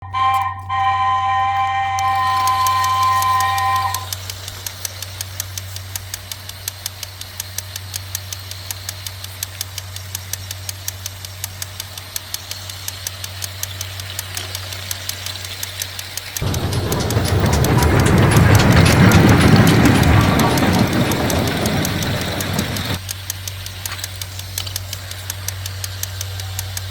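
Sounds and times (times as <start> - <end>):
regular rapid clicking: 2.0 - 26.9.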